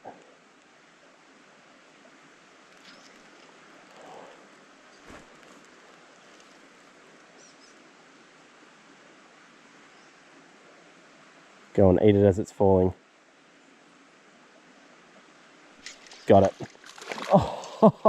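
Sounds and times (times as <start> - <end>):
flowing stream hiss: 0.0 - 18.0.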